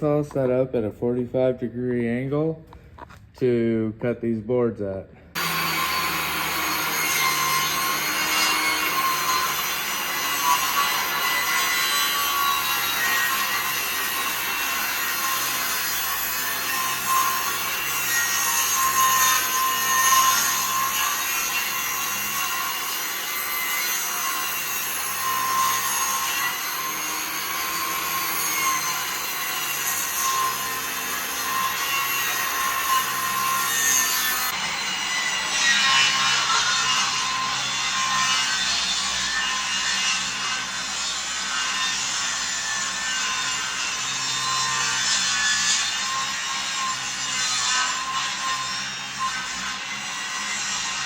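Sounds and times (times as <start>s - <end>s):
table saw cutting wood: 5.3s - 51.0s.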